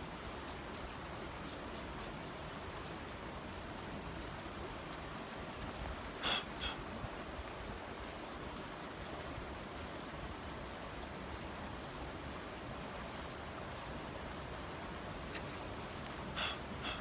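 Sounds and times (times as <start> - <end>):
stream flowing: 0.0 - 17.0.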